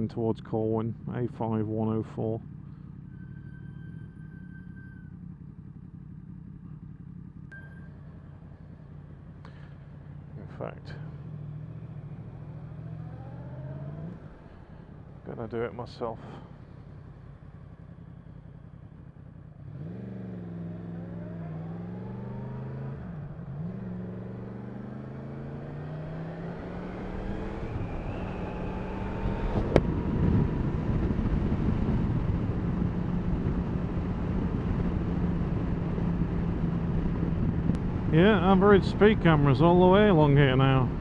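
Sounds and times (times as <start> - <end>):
motorcycle engine accelerating: 2.4 - 15.3, 16.3 - 41.0.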